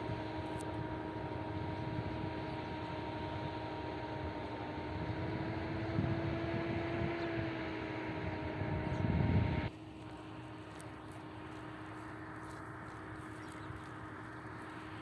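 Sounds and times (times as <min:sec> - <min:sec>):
faint hum: 0:00.0 - 0:15.0
motor humming: 0:00.0 - 0:15.0.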